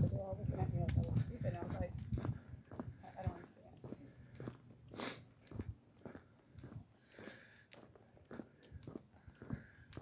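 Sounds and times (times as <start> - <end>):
faint footsteps on trail: 0.0 - 10.0.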